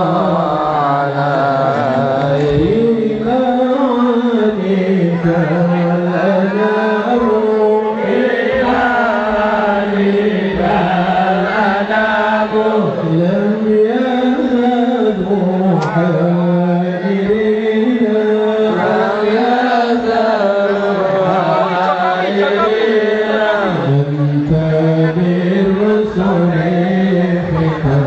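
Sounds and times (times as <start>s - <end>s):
ornamented devotional chanting: 0.0s - 28.0s.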